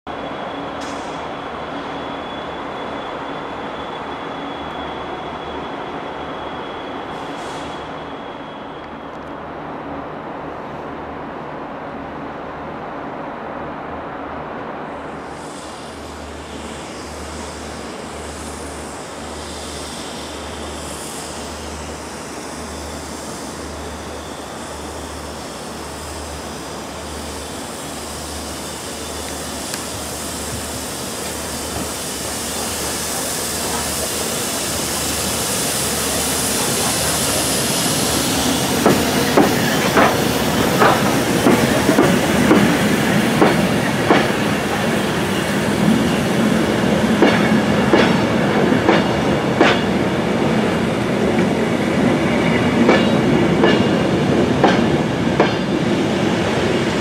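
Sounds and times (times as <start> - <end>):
steam locomotive passing: 0.1 - 57.0.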